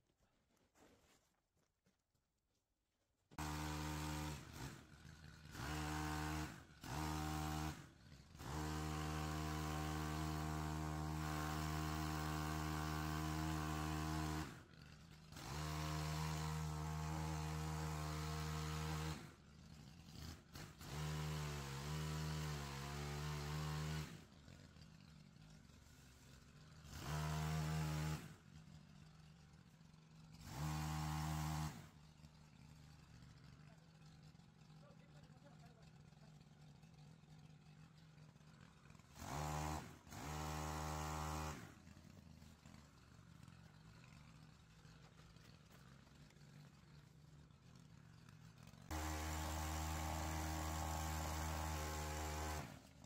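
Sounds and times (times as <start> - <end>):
pole saw engine revving: 3.4 - 33.8, 37.9 - 53.0.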